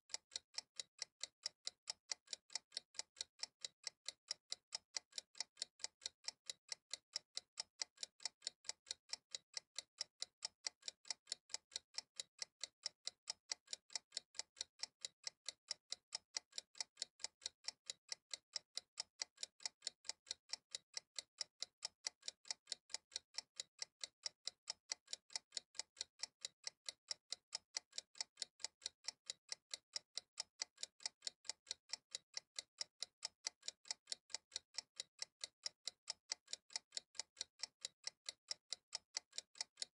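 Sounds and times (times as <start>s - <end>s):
clock-like timer ticking: 0.1s - 39.9s.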